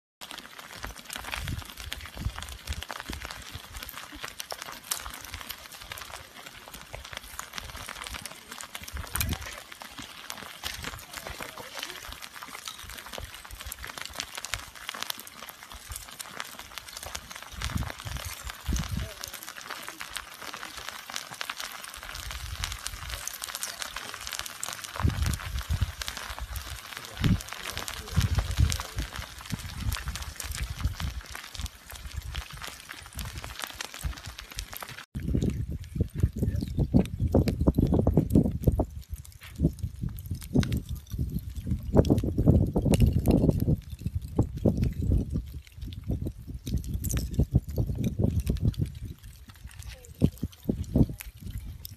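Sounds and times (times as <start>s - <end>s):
lava crust crackling and snapping: 0.2s - 51.9s.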